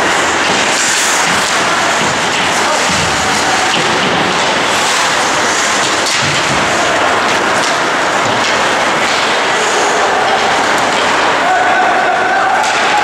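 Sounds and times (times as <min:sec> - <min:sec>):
ice rink ambience hiss: 0:00.0 - 0:13.0.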